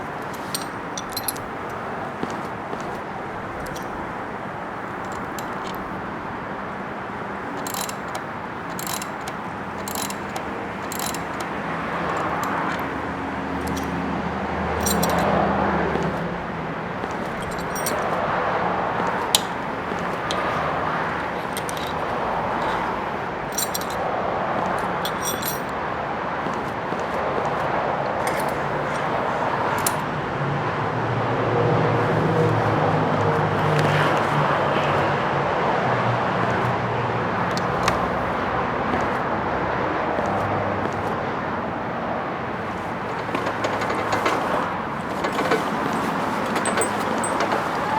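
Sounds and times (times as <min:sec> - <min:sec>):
metallic jingles and ticks: 0:00.0 - 0:06.3, 0:07.4 - 0:30.1, 0:32.0 - 0:35.1, 0:36.3 - 0:39.4, 0:40.0 - 0:41.8, 0:42.4 - 0:47.9
road traffic rumbling: 0:00.0 - 0:47.9.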